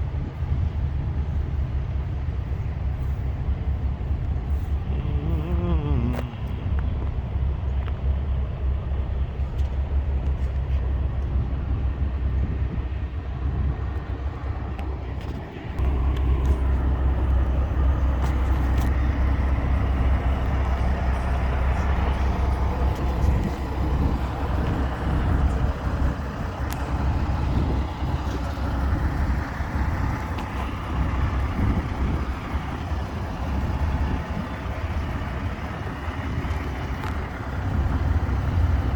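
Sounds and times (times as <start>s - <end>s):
truck engines rumbling: 0.0s - 38.9s.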